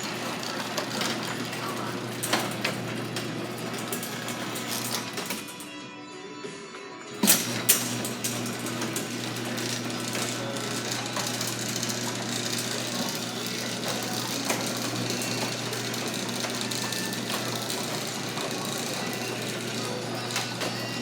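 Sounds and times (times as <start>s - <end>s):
garage door opener clicks: 0.0s - 5.7s, 7.2s - 21.0s
garage door motor humming: 0.0s - 5.8s, 7.1s - 21.0s.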